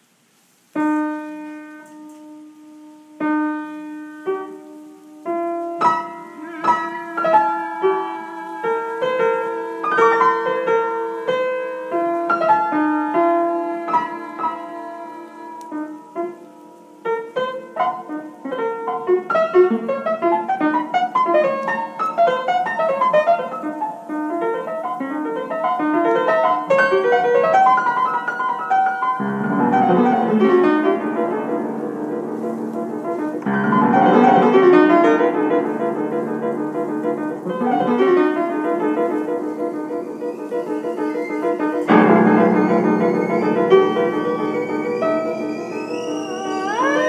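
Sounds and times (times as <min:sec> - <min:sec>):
out-of-tune piano playing: 0:00.8 - 0:47.0.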